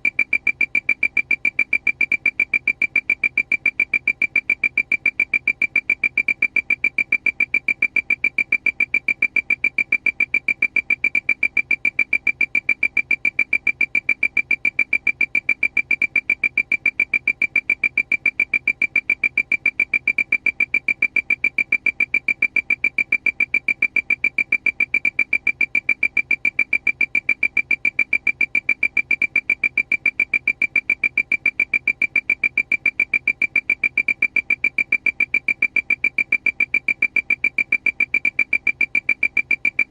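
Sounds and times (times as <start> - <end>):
rapid electronic alarm beeps: 0.0 - 39.9.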